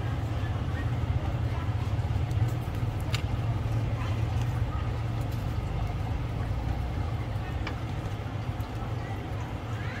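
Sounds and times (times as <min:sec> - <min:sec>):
low motor rumble: 0:00.0 - 0:10.0.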